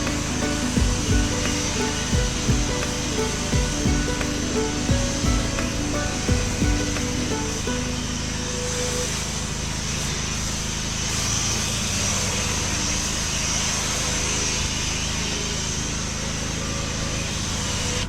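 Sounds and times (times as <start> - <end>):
pressure washer engine running: 0.0 - 17.0.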